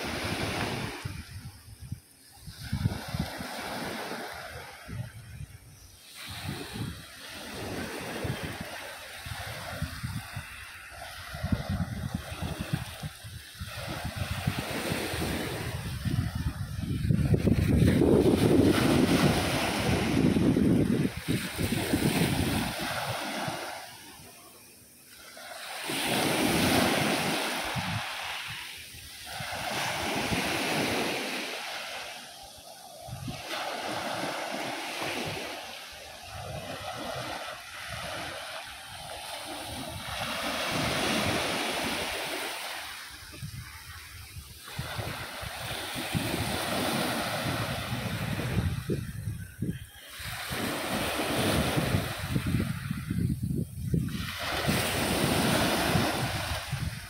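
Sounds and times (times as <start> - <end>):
waves washing on pebble beach: 0.0 - 57.0.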